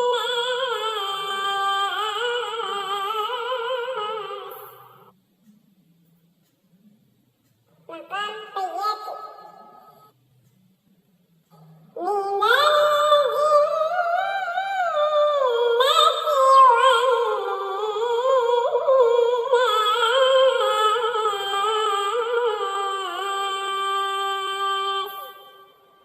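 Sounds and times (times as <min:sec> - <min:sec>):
person chanting recitation: 0:00.0 - 0:05.1, 0:07.8 - 0:10.1, 0:11.5 - 0:26.0.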